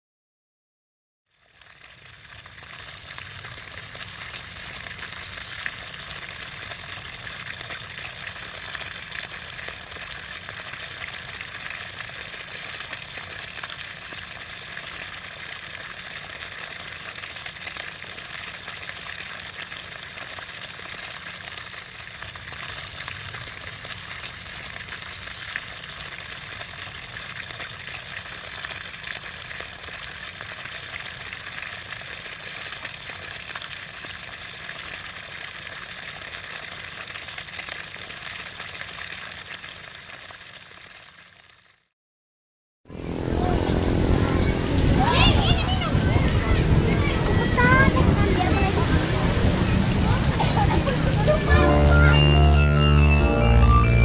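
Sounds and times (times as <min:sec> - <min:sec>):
running water rushing: 0:01.5 - 0:41.3, 0:42.9 - 0:52.7.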